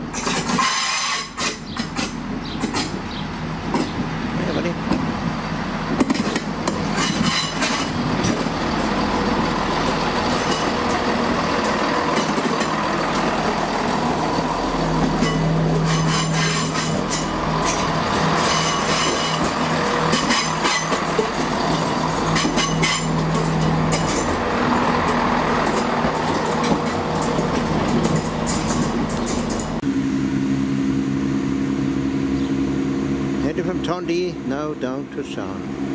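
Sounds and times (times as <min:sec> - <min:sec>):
train wheels clicking over rail joints: 0:00.0 - 0:04.2, 0:04.8 - 0:29.8
diesel train engine drone: 0:00.0 - 0:35.9.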